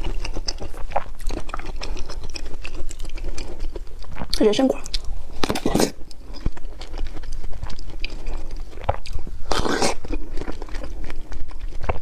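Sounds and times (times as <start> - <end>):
juicy crunchy chewing: 0.0 - 12.0.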